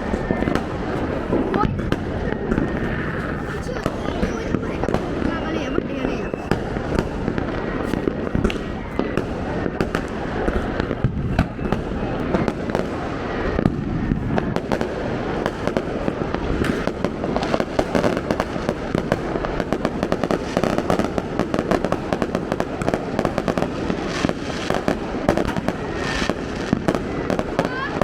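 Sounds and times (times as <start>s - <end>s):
firecrackers cracking and popping: 0.0s - 28.0s.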